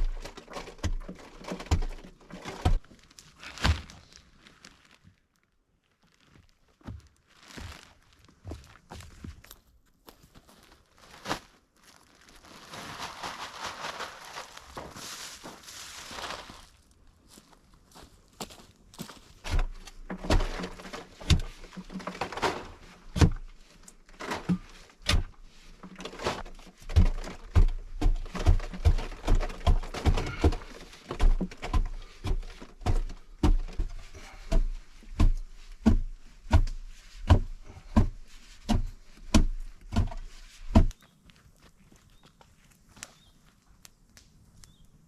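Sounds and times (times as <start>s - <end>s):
rustling: 0.0s - 45.0s.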